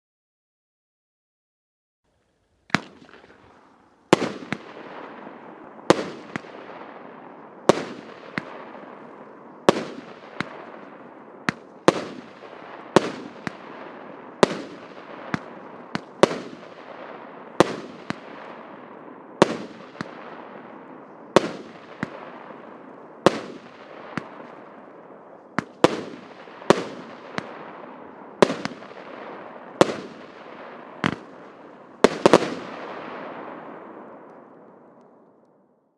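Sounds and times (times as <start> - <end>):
fireworks cake bangs: 2.7 - 18.8, 19.4 - 24.7, 25.6 - 33.4.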